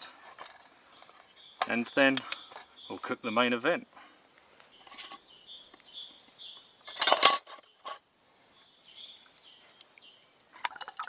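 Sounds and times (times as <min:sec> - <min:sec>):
small birds singing: 0:00.0 - 0:11.0.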